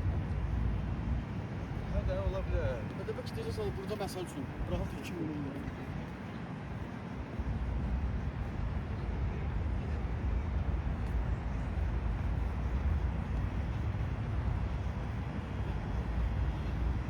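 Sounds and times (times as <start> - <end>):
low city rumble: 0.0 - 17.0.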